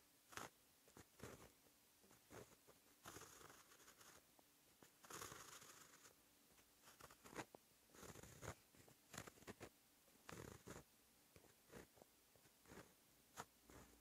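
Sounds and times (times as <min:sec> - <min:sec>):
pen scratching on paper: 0:00.3 - 0:04.2, 0:04.8 - 0:06.2, 0:06.8 - 0:14.0.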